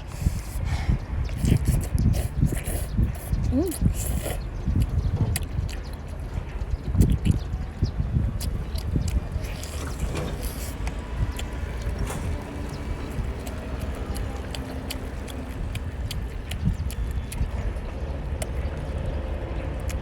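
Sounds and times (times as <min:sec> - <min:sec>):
wet chewing and mouth clicks: 0:00.2 - 0:20.0.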